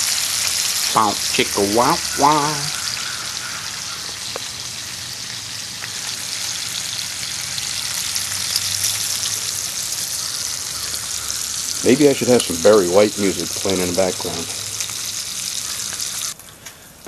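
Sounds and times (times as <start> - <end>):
bacon sizzling in a skillet: 0.0 - 16.4.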